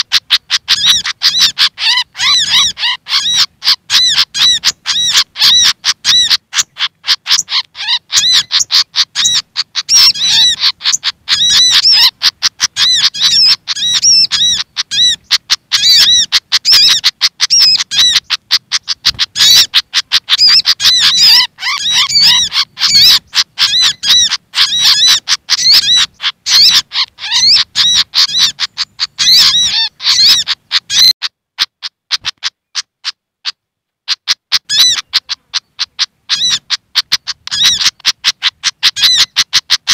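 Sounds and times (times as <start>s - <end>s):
sunbird calls: 0.0s - 33.1s, 34.1s - 39.9s
fantail agitated calls: 0.0s - 39.9s.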